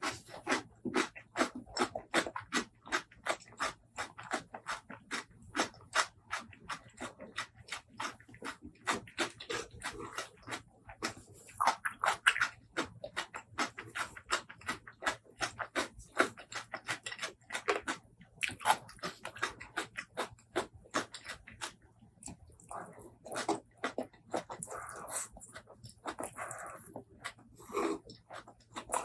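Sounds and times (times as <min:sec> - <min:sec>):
person chewing wetly: 0:00.0 - 0:29.0.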